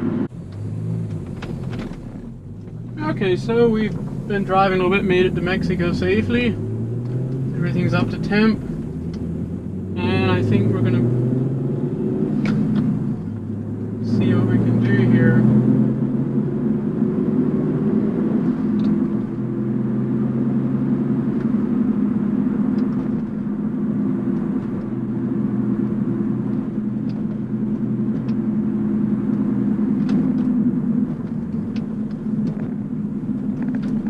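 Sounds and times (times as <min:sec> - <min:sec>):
car engine cruising: 0:00.0 - 0:34.0
road rumble: 0:00.0 - 0:34.0.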